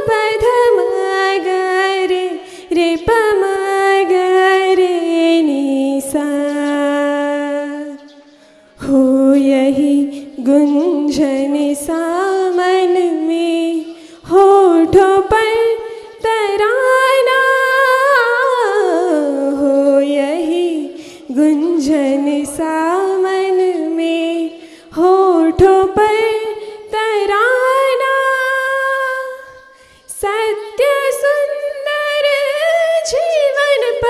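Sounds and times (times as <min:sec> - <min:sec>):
woman singing unaccompanied: 0:00.0 - 0:34.0.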